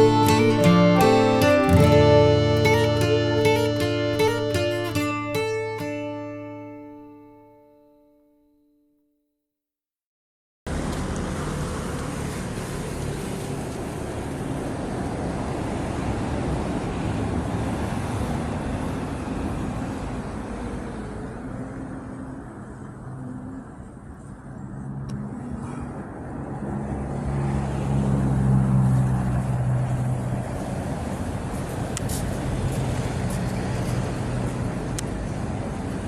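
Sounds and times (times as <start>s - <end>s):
motor vehicles passing: 0.0s - 6.9s, 10.7s - 36.0s
engine hum: 0.0s - 7.0s, 10.7s - 36.0s.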